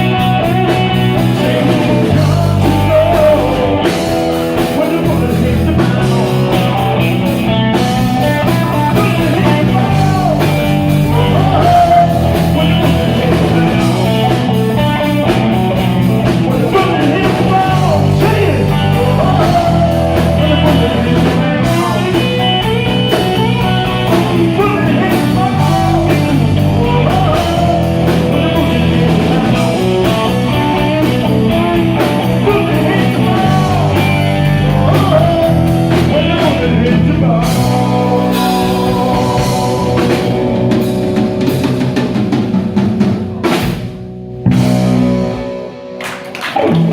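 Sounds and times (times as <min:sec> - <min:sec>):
person singing: 0:00.0 - 0:41.5
bass line: 0:00.0 - 0:46.9
drums beat: 0:00.0 - 0:46.9
electric guitar: 0:00.0 - 0:46.9.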